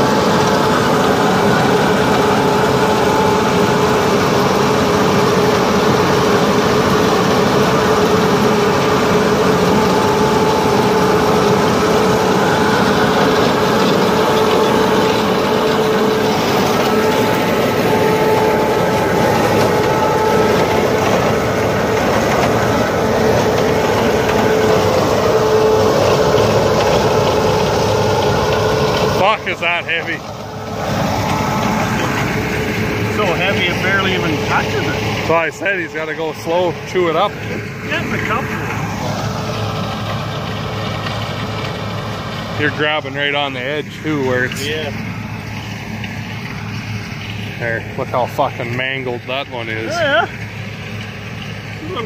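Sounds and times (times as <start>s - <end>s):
hay header machinery droning: 0.0s - 52.0s.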